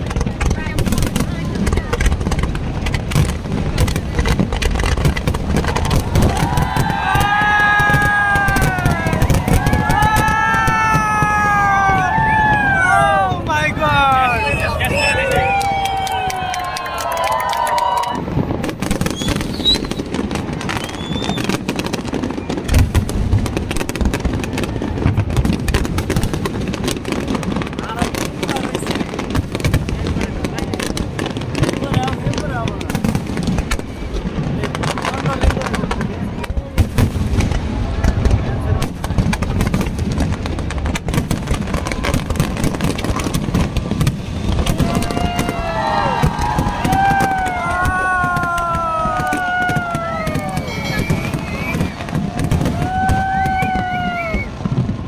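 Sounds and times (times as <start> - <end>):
crowd voices: 0.0 - 55.0
fireworks crackling pops: 0.0 - 55.0
fireworks deep booms: 0.0 - 55.0.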